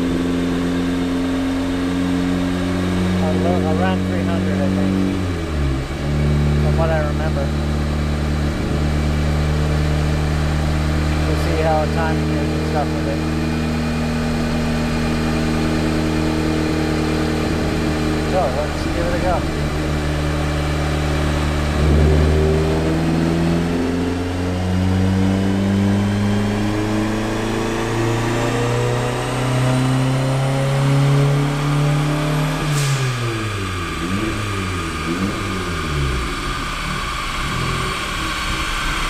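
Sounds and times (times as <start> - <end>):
car engine revving on a dyno: 0.0 - 39.0
exhaust crack: 2.4 - 30.4, 32.4 - 39.0.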